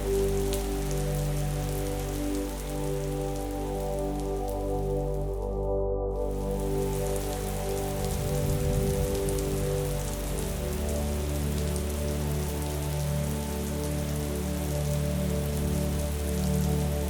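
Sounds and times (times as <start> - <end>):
rain pattering: 0.0 - 17.0
soft held music chords: 0.0 - 17.0.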